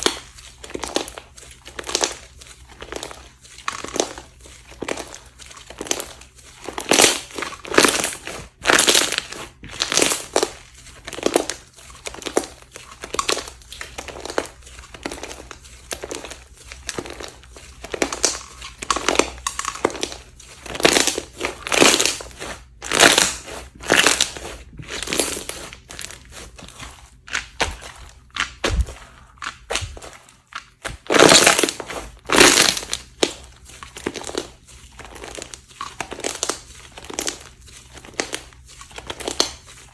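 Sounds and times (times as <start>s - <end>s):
slime crackling and crunching: 0.0s - 39.9s.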